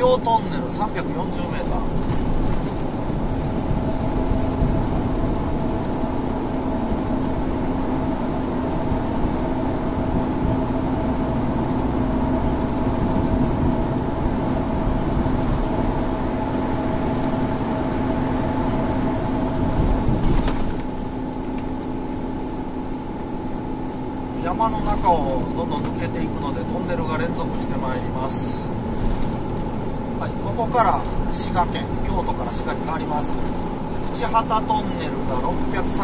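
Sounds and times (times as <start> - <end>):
car road noise from inside: 0.0 - 36.0.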